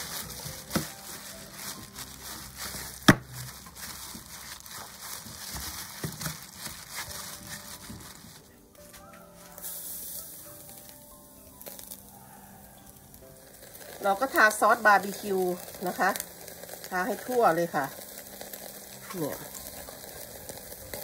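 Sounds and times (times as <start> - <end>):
plastic gloves crinkling and squelching: 0.0 - 21.0.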